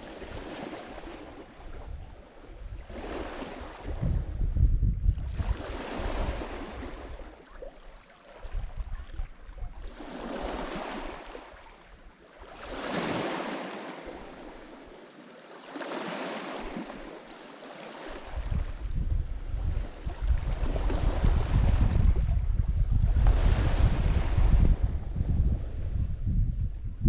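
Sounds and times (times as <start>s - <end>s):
waves breaking on shore: 0.0s - 4.2s, 5.2s - 25.2s.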